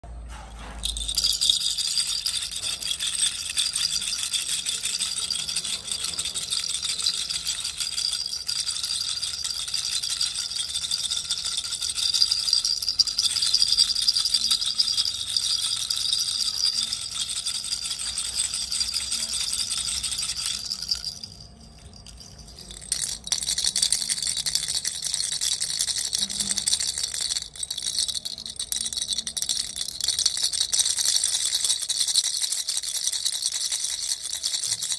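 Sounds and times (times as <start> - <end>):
baby rattle shaking: 0.6 - 34.9.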